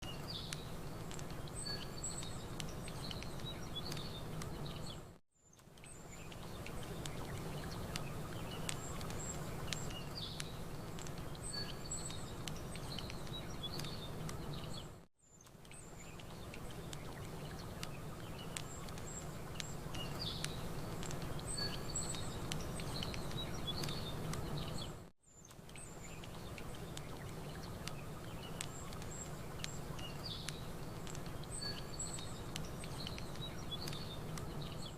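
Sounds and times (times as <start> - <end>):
birds chirping: 0.0 - 34.9
campfire crackling: 0.1 - 5.0, 5.6 - 34.9.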